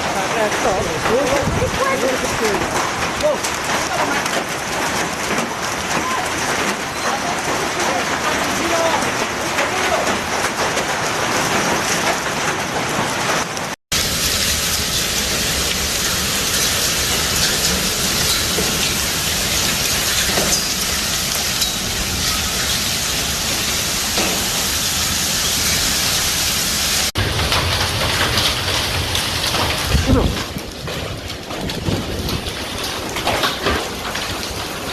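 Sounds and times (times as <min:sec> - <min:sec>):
hail pelting down: 0:00.0 - 0:34.9.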